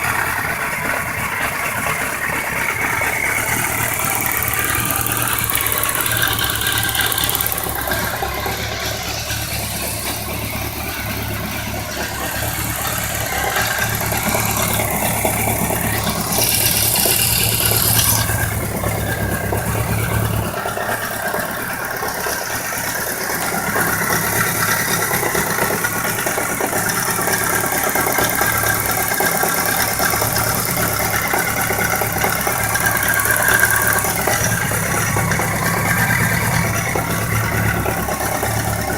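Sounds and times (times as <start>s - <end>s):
engine knocking and ticking: 0.0s - 38.9s
motorcycle engine idling: 0.0s - 38.9s.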